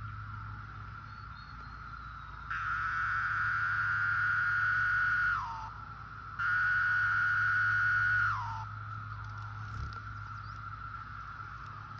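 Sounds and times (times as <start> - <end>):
chorus of cicadas: 0.0 - 11.9
cicada buzzing call: 0.0 - 11.9.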